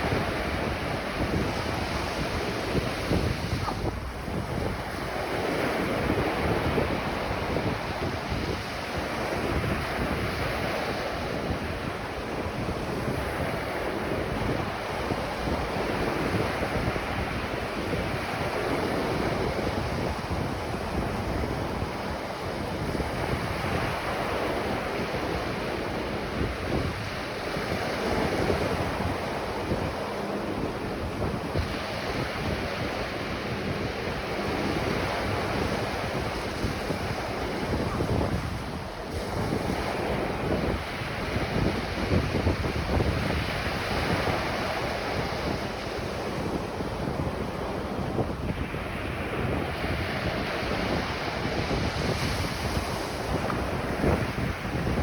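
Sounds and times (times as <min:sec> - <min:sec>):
ocean surf breaking on beach: 0:00.0 - 0:55.0
wind buffeting microphone: 0:00.0 - 0:55.0.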